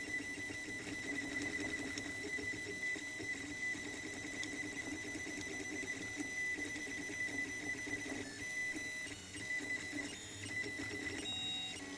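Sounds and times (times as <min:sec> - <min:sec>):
three d printer motors whining: 0:00.0 - 0:11.9.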